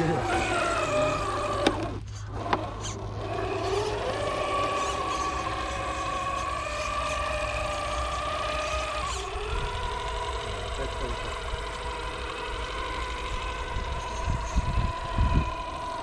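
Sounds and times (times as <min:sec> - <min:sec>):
electric motor and gearbox whine: 0:00.0 - 0:16.0.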